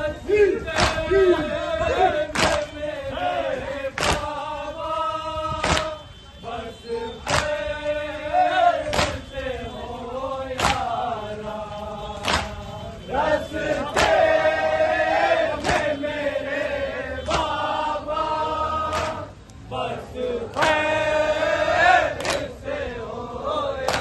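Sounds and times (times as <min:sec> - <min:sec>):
men chanting together: 0:00.0 - 0:24.0.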